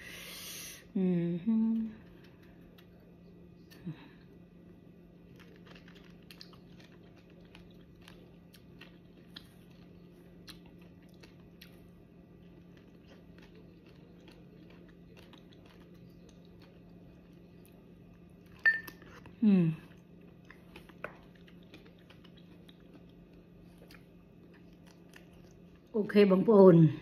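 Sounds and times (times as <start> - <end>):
low steady hum: 0.0 - 27.0
soft chewing: 1.6 - 26.0.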